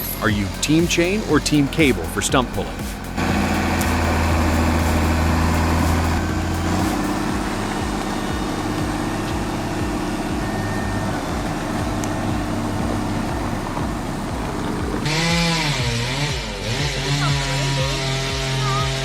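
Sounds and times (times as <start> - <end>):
engine revving up and down: 0.0 - 19.0
large engine running steadily: 0.0 - 19.0.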